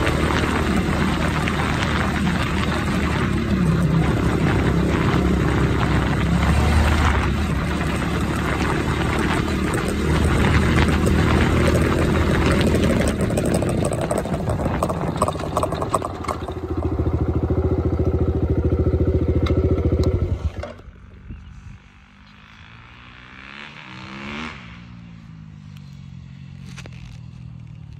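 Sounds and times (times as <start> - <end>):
loud engine pulsing: 0.0 - 24.8
engine passing by: 0.0 - 27.8.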